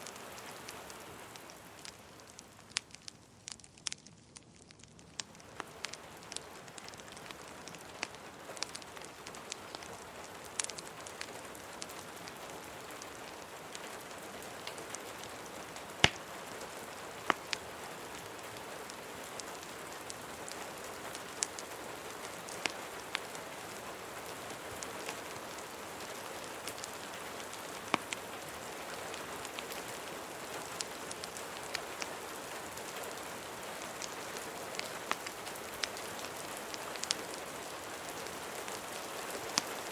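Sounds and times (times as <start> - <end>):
steady rain hiss: 0.0 - 39.9
wood fire crackling and popping: 0.0 - 39.9.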